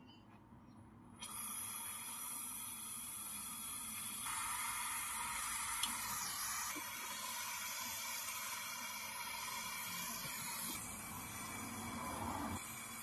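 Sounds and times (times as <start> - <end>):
torch flame hissing: 1.2 - 13.0.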